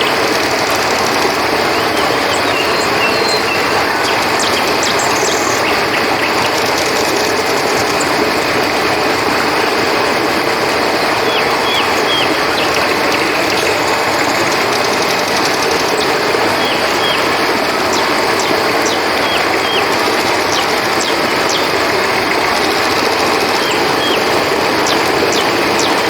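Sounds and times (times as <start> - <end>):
crickets chirping: 0.0 - 26.0
river water flowing: 0.0 - 26.0.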